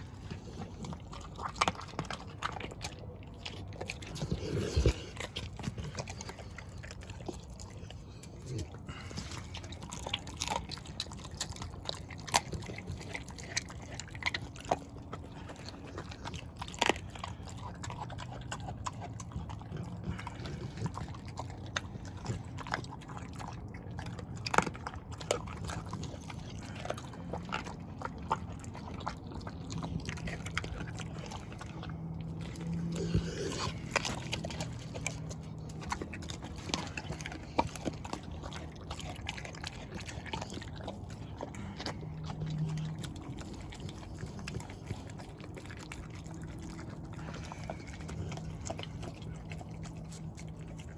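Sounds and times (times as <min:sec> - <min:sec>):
dog chewing and crunching: 0:00.0 - 0:50.9.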